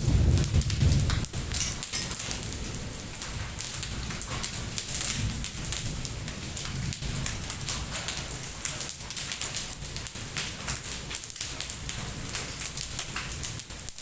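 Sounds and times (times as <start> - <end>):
hail pelting hard surfaces: 0.0 - 14.0.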